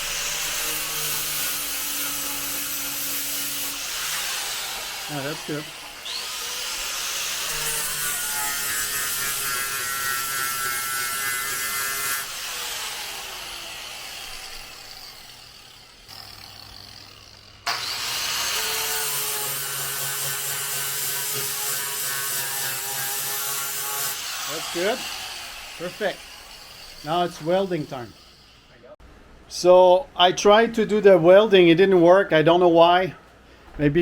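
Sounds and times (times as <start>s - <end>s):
electric grinder on steel: 0.0s - 28.8s.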